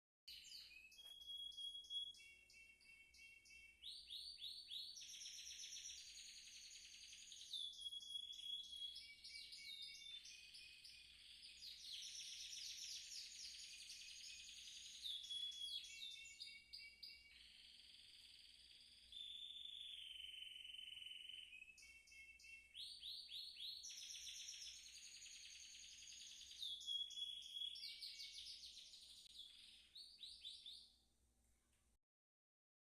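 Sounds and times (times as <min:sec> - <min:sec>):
canary singing trills: 0:00.3 - 0:30.9.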